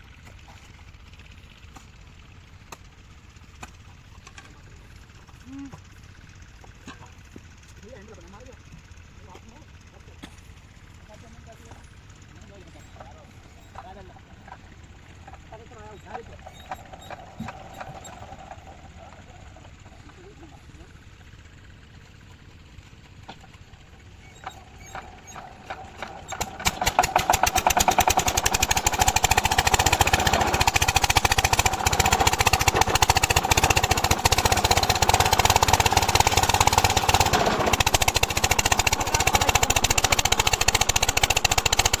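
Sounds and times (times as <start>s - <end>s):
diesel engine starting and running: 0.0s - 42.0s.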